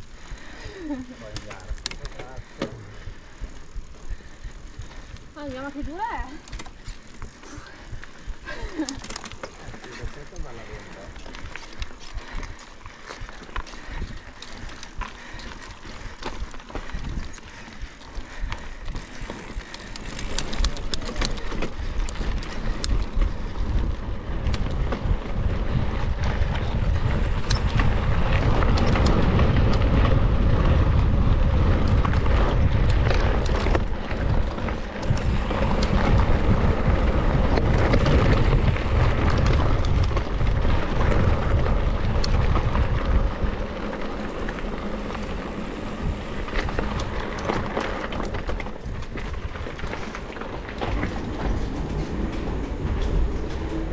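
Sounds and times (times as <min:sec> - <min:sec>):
bike rattling over rough ground: 0:00.0 - 0:53.9
bike tyre rumble: 0:00.0 - 0:53.9
wind buffeting microphone: 0:00.0 - 0:53.9.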